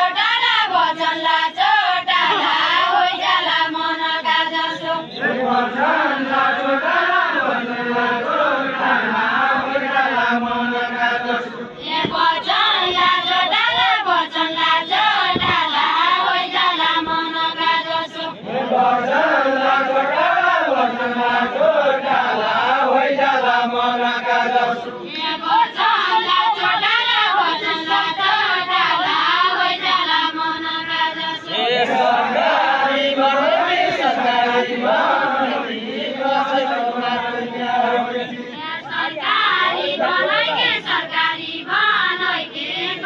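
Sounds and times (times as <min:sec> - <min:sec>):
group singing in unison: 0:00.0 - 0:43.0.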